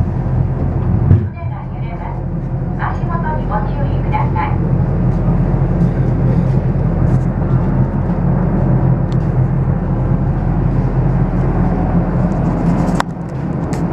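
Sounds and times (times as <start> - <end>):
ferry engine rumbling: 0.0 - 13.9.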